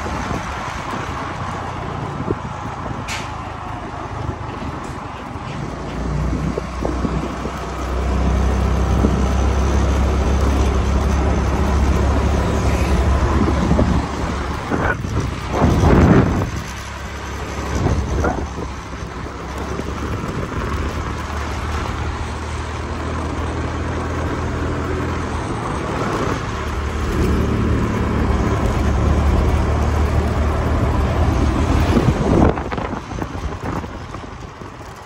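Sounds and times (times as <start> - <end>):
wind rushing over microphone: 0.0 - 35.0
scooter engine running: 6.4 - 35.0.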